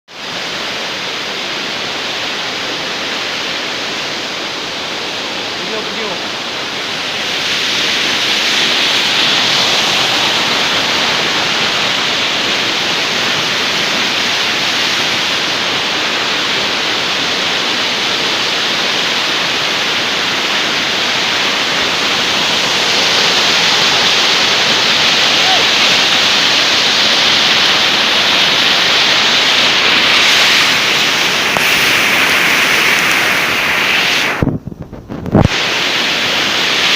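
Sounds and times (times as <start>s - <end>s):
waterfall rushing: 0.1s - 34.6s, 35.3s - 36.9s.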